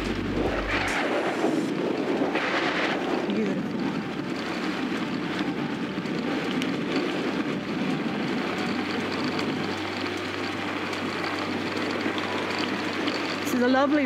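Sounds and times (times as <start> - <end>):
bicycle tyres rolling on dirt: 0.0 - 14.0.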